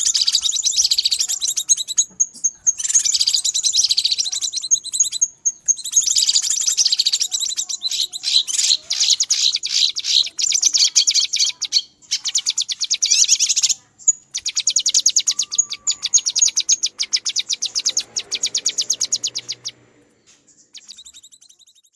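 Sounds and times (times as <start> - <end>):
bird chattering calls: 0.0 - 21.9.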